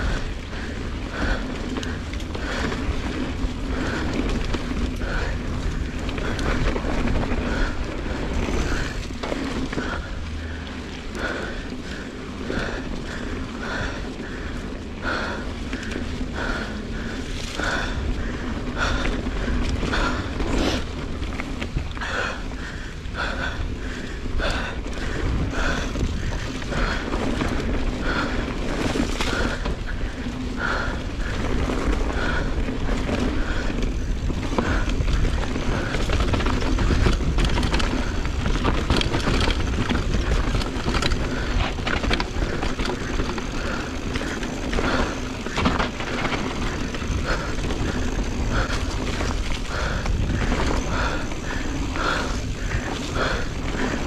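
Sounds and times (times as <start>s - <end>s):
bike knocking and rattling: 0.0s - 54.0s
bike tyres on dirt trail: 0.0s - 54.0s
wind rumble: 0.0s - 54.0s.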